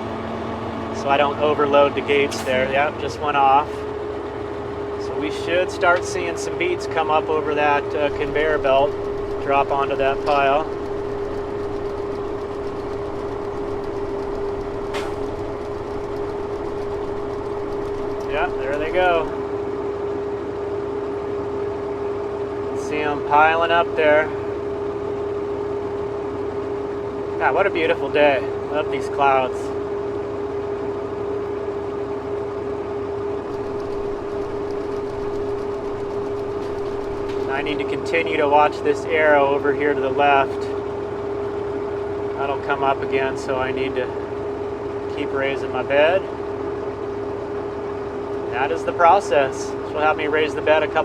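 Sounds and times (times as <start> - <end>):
truck engine running with whine: 0.0 - 51.0.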